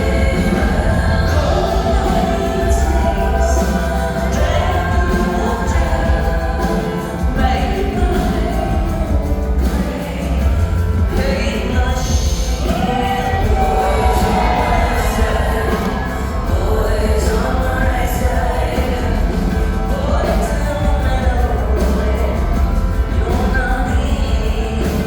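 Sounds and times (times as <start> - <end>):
live band with strong bass: 0.0 - 25.0
woman singing: 0.0 - 25.0.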